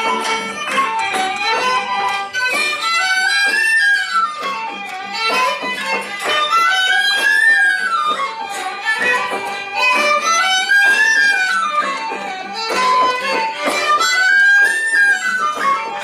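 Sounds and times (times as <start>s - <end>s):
fiddle-led folk band playing a jig: 0.0s - 16.0s
hand frame drum: 0.0s - 16.0s
small wind instrument: 0.0s - 16.0s.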